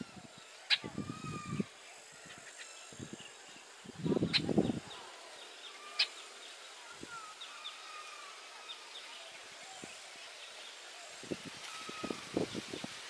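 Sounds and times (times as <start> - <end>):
birds chirping: 0.0 - 13.0
wind gusting against microphone: 0.0 - 13.0.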